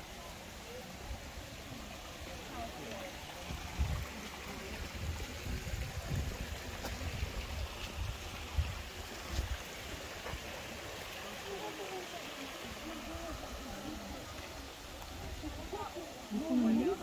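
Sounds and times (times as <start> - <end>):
outdoor hiss: 0.0 - 17.0
small stream running: 0.0 - 17.0.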